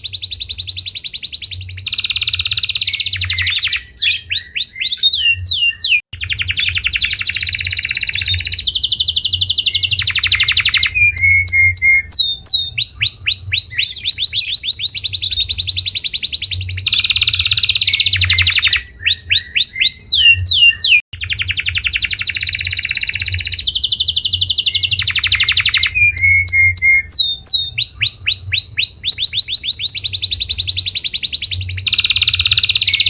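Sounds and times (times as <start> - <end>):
canary song with trills: 0.0 - 33.0.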